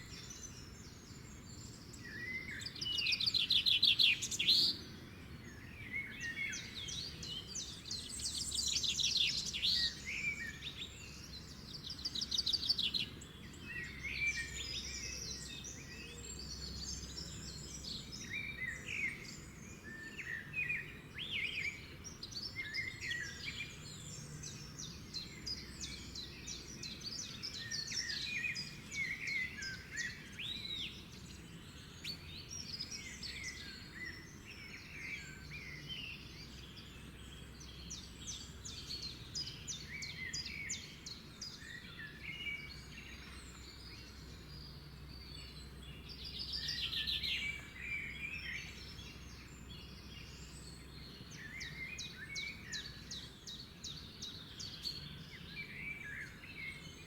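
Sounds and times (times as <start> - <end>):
songbirds singing and trilling: 0.0 - 57.0.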